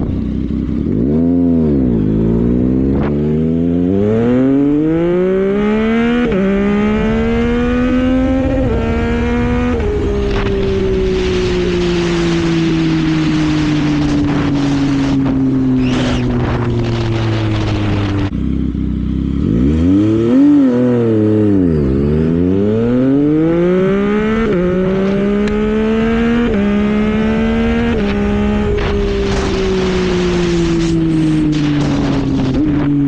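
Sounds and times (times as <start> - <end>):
wind noise: 0.0 - 18.5, 19.4 - 33.0
motorcycle engine revving: 0.0 - 33.0.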